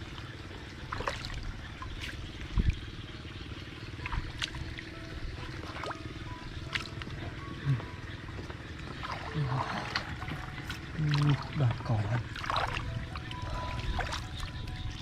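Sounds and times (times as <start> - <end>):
small engine running: 0.0 - 15.0
water trickling and splashing: 0.0 - 15.0.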